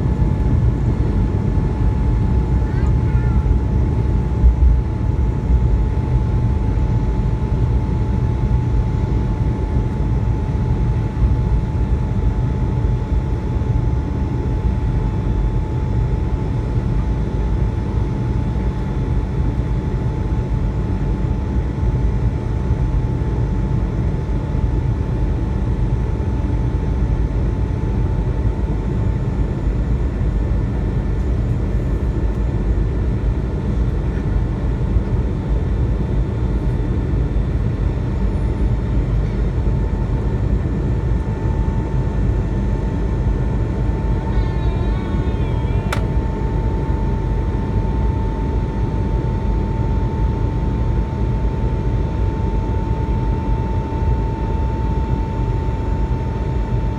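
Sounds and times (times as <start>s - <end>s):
jet engine cabin roar: 0.0s - 22.3s, 27.4s - 56.9s.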